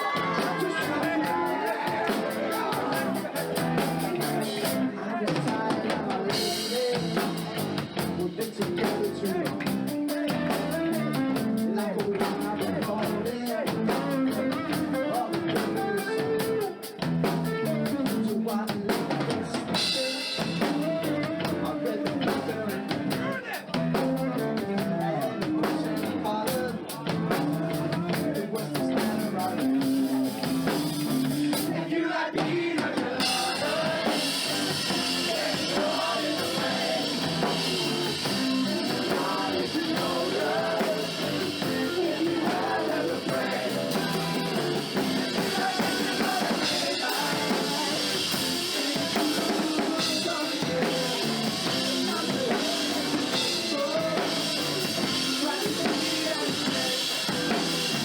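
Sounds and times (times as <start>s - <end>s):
drum kit beat: 0.0s - 58.0s
rock band playing: 0.0s - 58.0s.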